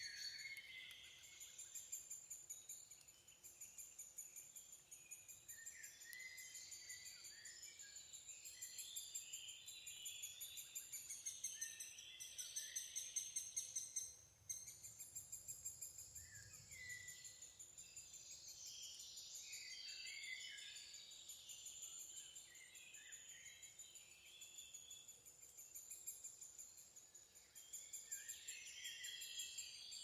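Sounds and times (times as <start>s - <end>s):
birds singing and calling: 0.0s - 25.7s, 27.6s - 30.0s.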